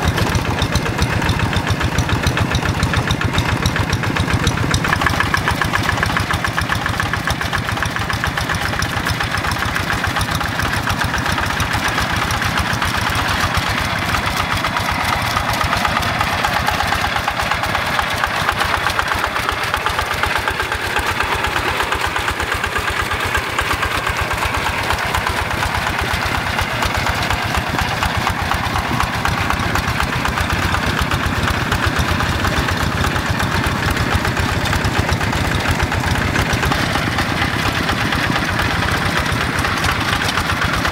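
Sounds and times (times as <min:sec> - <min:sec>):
single-cylinder diesel engine running: 0:00.0 - 0:40.9.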